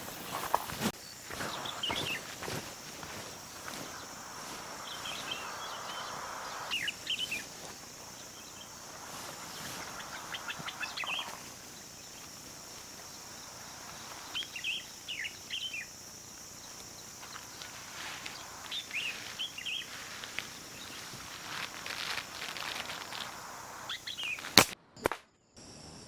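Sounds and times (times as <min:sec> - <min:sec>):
small birds twittering: 0:00.0 - 0:24.6
high insect drone: 0:00.0 - 0:24.8, 0:25.6 - 0:26.0.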